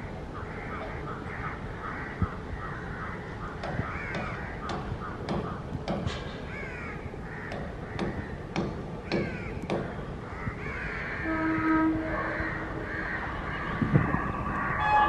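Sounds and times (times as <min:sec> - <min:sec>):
crows cawing: 0:00.4 - 0:05.7, 0:06.4 - 0:15.0.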